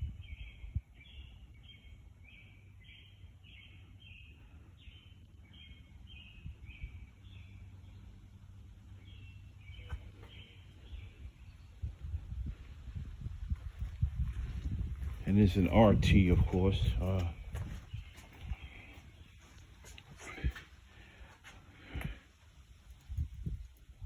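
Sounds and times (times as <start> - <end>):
low steady background rumble: 0.0 - 24.0.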